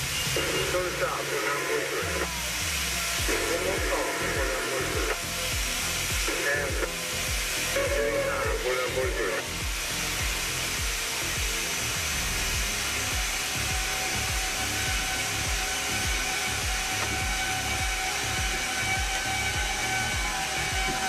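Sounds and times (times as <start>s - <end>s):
diesel locomotive running: 0.0s - 21.0s
whining tones: 0.0s - 21.0s.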